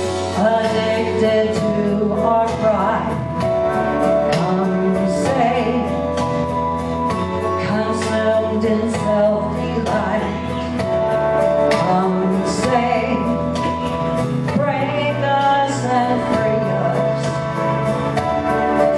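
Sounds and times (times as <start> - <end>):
instrumental backing music: 0.0 - 18.9
woman singing into microphone: 0.0 - 18.9.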